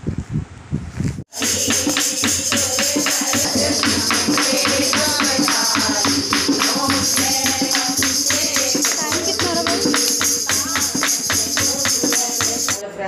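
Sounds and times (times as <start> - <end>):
hand drum beat: 1.3 - 12.8
jingling percussion: 1.3 - 12.8
women singing a hymn: 1.3 - 12.9
hand claps: 1.8 - 12.8.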